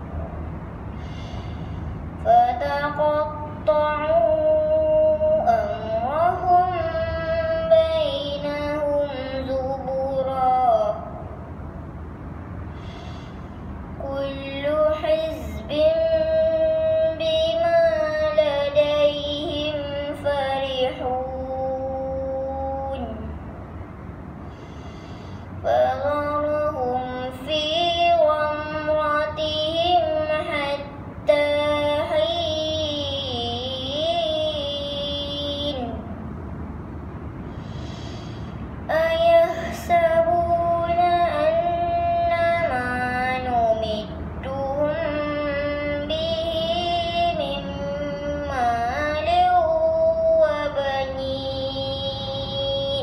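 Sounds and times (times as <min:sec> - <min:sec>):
girl chanting melodically: 0:00.0 - 0:23.7, 0:24.5 - 0:36.3, 0:37.5 - 0:53.0.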